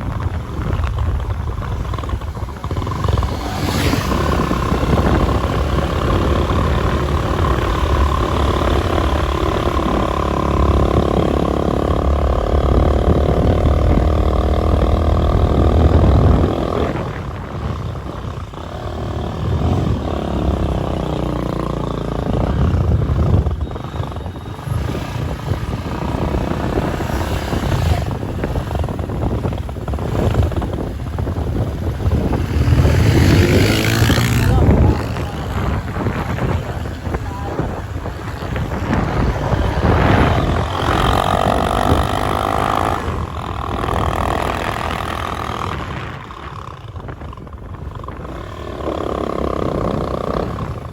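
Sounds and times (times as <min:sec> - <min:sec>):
engine running: 0:00.0 - 0:50.9.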